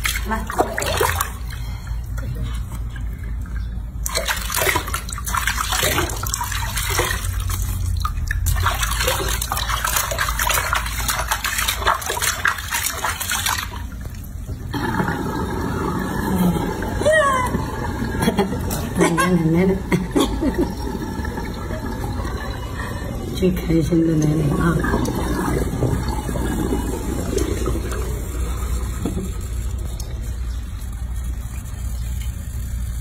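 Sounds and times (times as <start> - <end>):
water splashing in a sink: 0.0 - 33.0.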